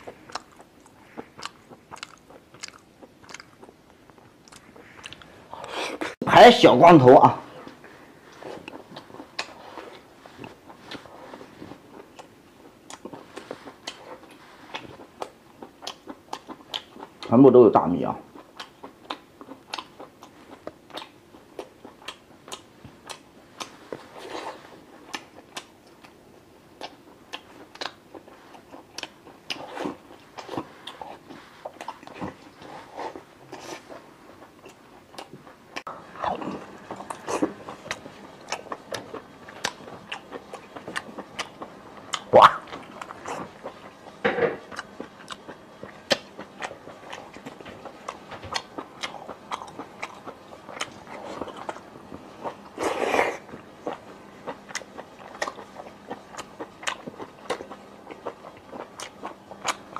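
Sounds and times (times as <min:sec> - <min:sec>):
person chewing with wet smacks: 0:00.0 - 0:06.2, 0:07.6 - 0:17.4, 0:18.2 - 0:59.9.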